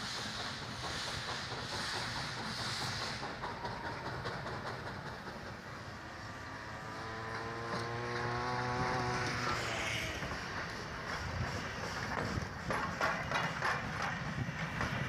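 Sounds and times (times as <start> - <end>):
steam hiss: 0.0 - 6.8, 8.9 - 15.0
rail noise: 0.0 - 15.0
steam locomotive running: 0.0 - 15.0.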